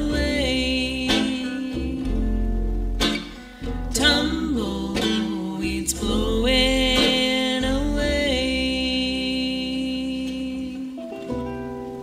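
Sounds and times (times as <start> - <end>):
woman singing: 0.0 - 2.5, 3.6 - 11.3
plucked upright bass: 0.0 - 12.0
strummed acoustic guitars: 0.0 - 12.0.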